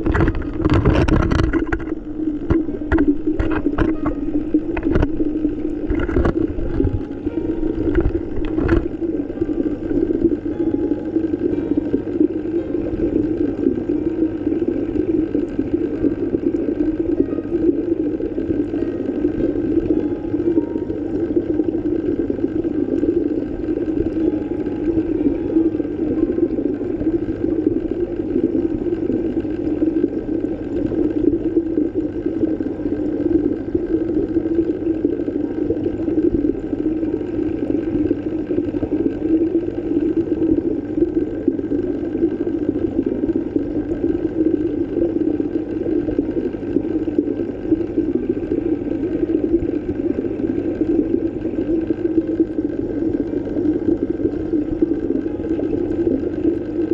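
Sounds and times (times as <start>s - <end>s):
faint steady hum tones: 0.0s - 56.9s
underwater low rumble: 0.0s - 56.9s.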